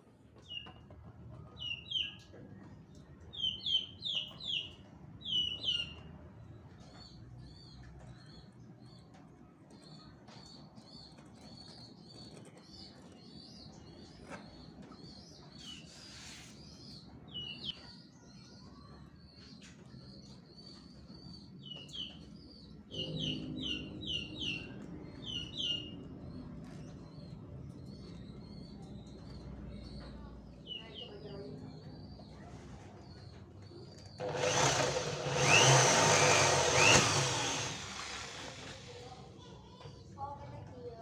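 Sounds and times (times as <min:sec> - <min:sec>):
small birds chirping: 0:00.3 - 0:41.0.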